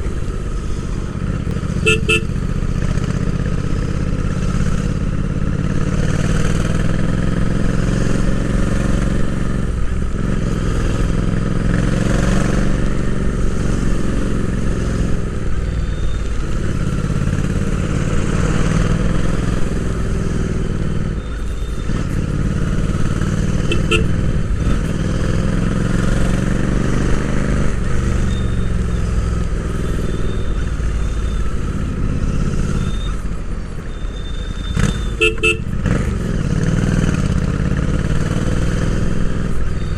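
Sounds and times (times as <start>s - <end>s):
motorcycle engine revving: 1.2s - 15.6s, 16.4s - 21.2s, 21.8s - 33.4s, 34.7s - 39.9s.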